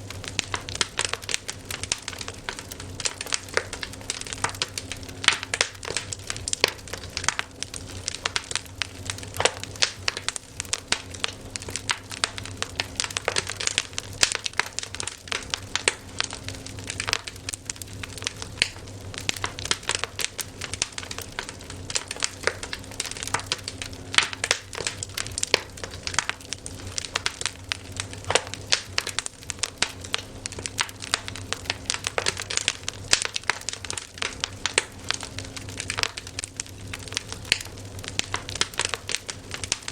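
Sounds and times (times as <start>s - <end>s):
steady low hum: 0.0s - 39.9s
wood fire crackling: 0.0s - 39.9s.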